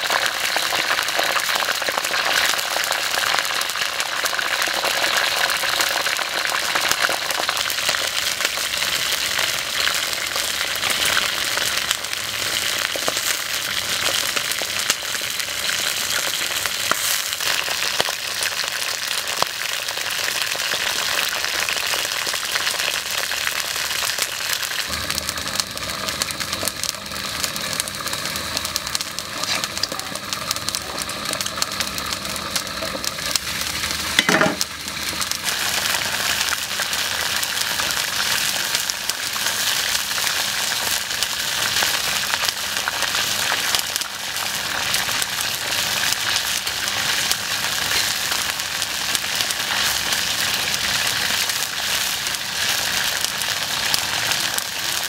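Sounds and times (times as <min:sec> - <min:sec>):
deep-frying in hot oil: 0:00.0 - 0:55.0.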